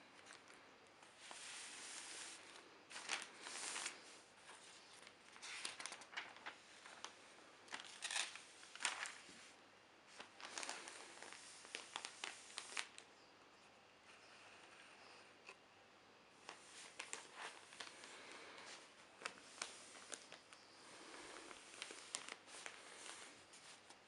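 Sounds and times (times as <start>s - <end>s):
newspaper pages rustling: 0.1s - 13.0s, 16.4s - 24.0s.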